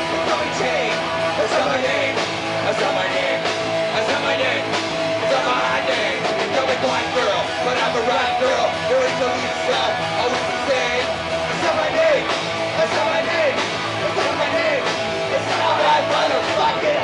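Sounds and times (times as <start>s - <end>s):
drum kit: 0.0s - 17.0s
electric guitars: 0.0s - 17.0s
person singing: 0.0s - 17.0s.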